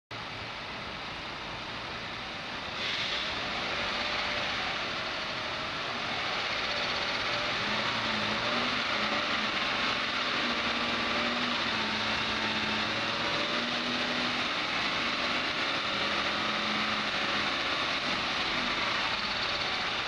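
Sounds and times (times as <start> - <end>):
engine and driveline running: 0.1 - 20.0.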